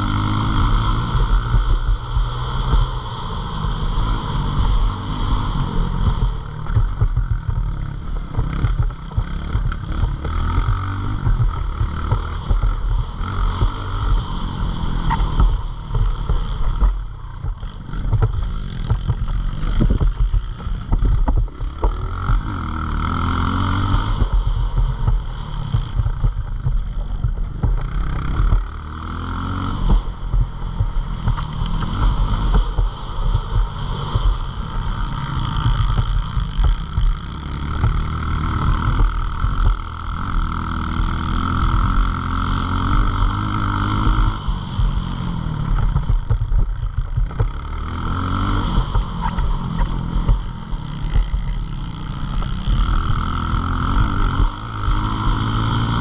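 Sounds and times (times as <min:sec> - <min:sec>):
heavy low rumble: 0:00.0 - 0:56.0
small motorcycle engine revving: 0:00.0 - 0:56.0.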